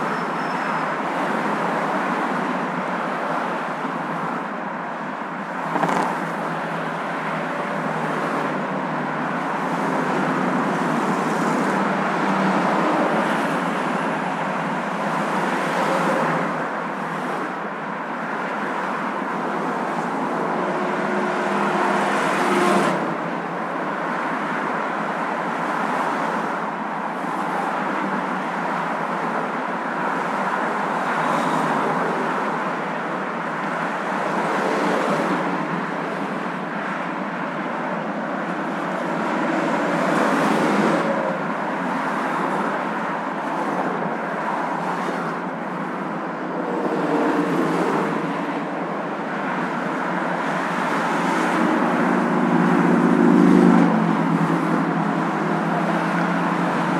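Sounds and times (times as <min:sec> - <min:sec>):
car road and tyre noise: 0:00.0 - 0:56.9.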